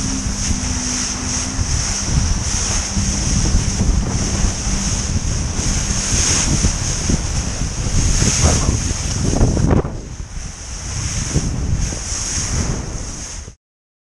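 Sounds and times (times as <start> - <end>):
water rushing along hull: 0.0 - 13.6
wind buffeting microphone: 0.0 - 13.6.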